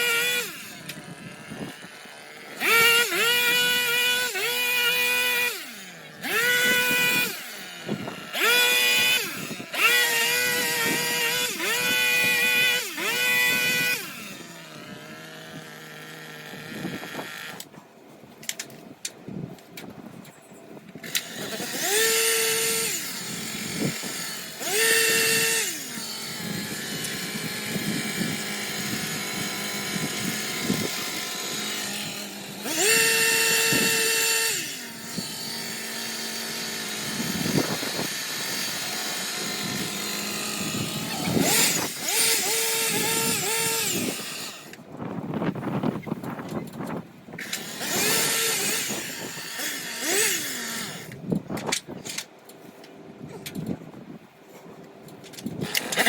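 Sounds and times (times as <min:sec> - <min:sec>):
power trimmer motor revving: 0:00.0 - 0:17.7, 0:21.0 - 0:45.9, 0:47.4 - 0:51.2, 0:55.5 - 0:56.0.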